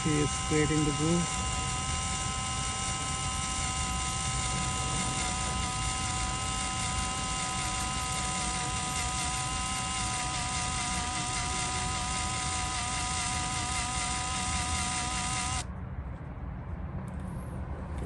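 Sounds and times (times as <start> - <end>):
power drill motor whine: 0.0 - 15.7.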